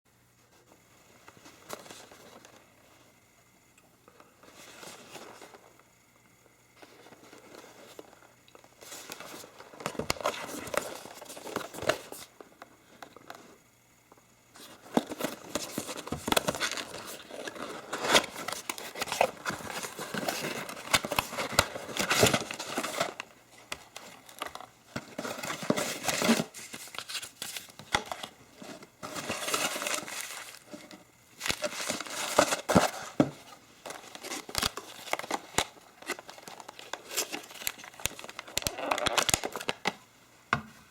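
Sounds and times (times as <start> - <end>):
packaging crinkling and rustling: 4.1 - 5.8, 6.8 - 13.7, 14.5 - 40.1.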